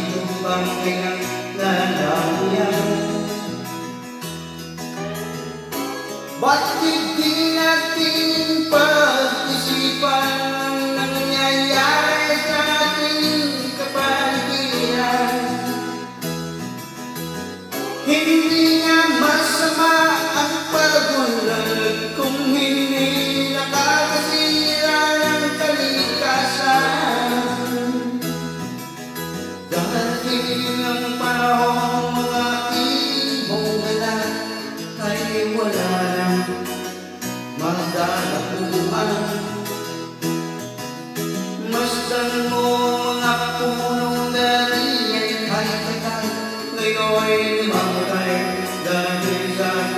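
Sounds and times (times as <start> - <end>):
man singing into microphone: 0.0 - 4.1, 5.0 - 16.3, 17.6 - 40.3, 41.2 - 49.9
instrumental backing music: 0.0 - 49.9.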